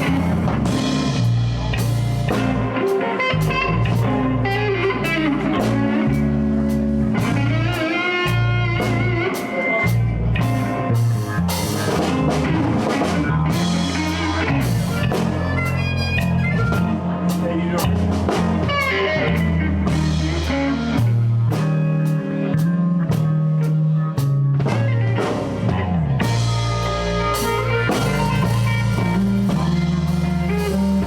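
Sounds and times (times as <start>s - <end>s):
blues band playing: 0.0s - 31.0s
electric guitar: 0.0s - 31.0s.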